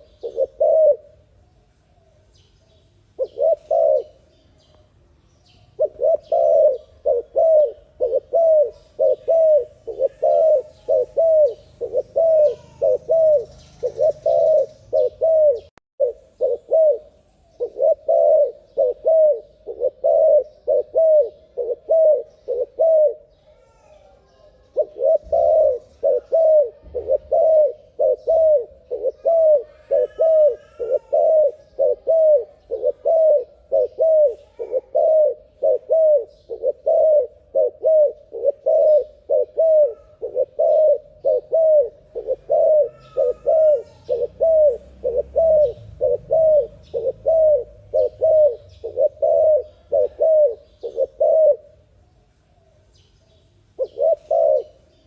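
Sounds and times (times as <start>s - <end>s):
dove cooing: 0.0s - 1.3s, 3.2s - 4.3s, 5.7s - 51.9s, 53.7s - 55.0s
small birds chirping: 0.0s - 55.0s.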